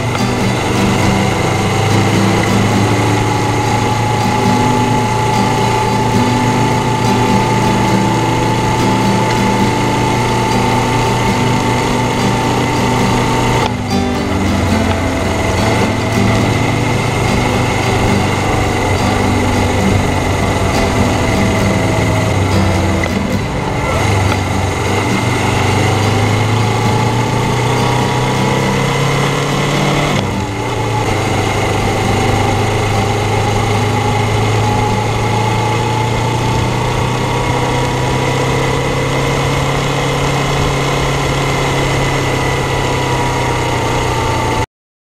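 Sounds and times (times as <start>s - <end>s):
motorcycle engine running: 0.0s - 44.6s.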